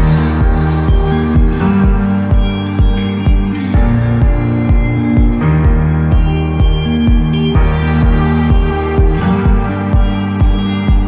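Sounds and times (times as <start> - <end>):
electronic background music: 0.0 - 11.0.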